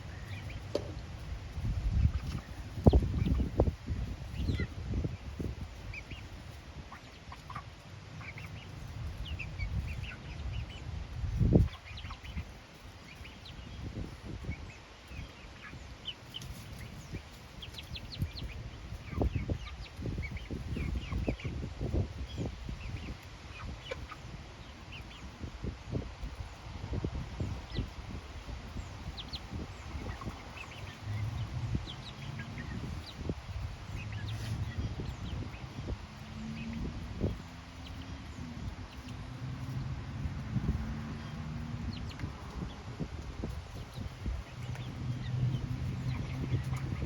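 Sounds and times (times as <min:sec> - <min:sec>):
hens clucking and chirping: 0:00.0 - 0:47.0.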